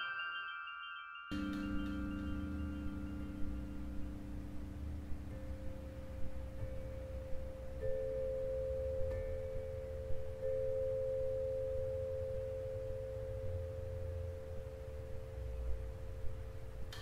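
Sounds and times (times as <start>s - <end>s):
ambient drone music: 1.3s - 17.0s.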